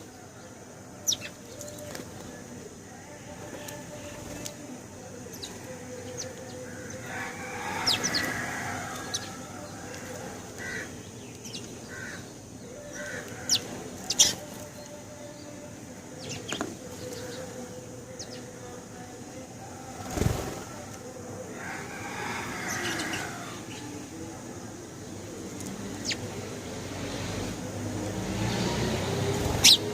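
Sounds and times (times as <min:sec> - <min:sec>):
sparrows chirping: 0:00.0 - 0:27.3, 0:28.1 - 0:29.9.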